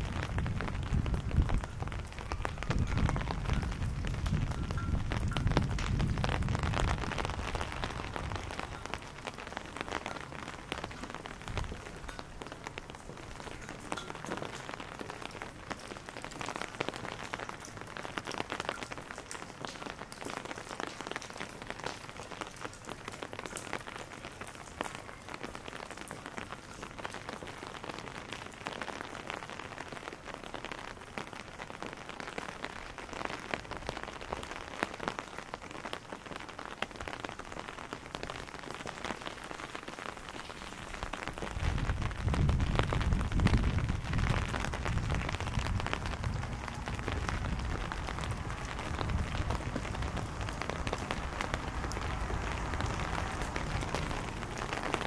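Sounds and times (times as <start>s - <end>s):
steady rain on cobblestones: 0.0s - 55.0s.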